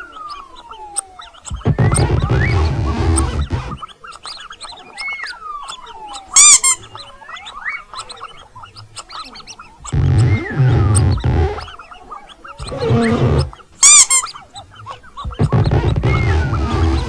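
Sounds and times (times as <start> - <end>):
mouse squeaks: 0.0 - 17.0.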